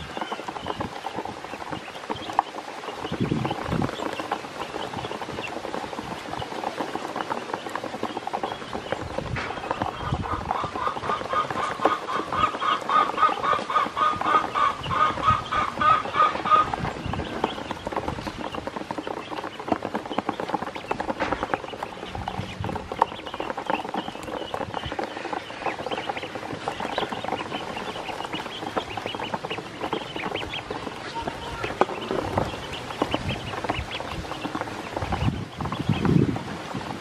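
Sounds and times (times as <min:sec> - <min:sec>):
ducklings peeping: 0:00.0 - 0:37.0
ducklings splashing in water: 0:00.0 - 0:37.0.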